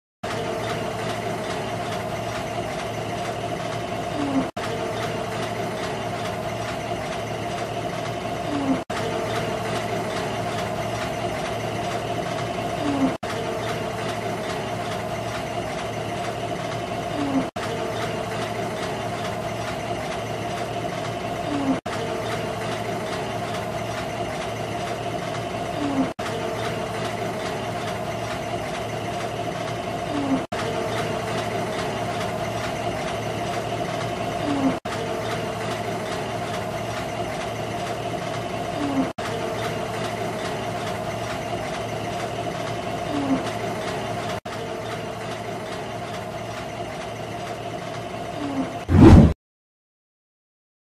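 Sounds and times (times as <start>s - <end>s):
constant machine whine: 0.2s - 49.3s
conveyor line humming: 0.2s - 49.3s.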